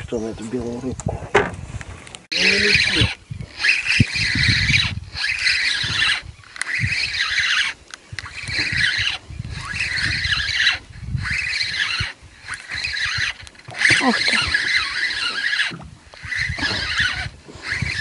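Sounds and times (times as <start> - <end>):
fishing reel whirring: 2.3 - 18.0.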